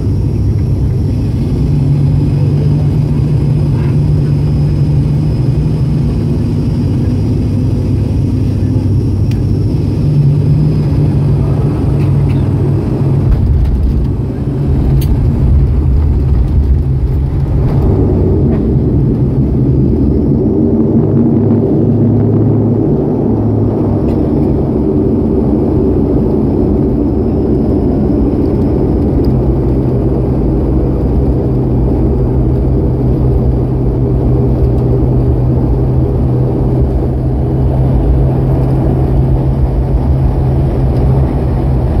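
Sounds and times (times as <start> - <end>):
deep steady hum: 0.0 - 42.0
engine and propeller drone: 0.0 - 42.0
runway rumble: 0.0 - 42.0.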